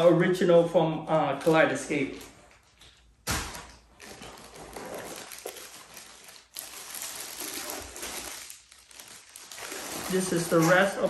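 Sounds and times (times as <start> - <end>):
plastic packaging crinkling: 2.1 - 11.0.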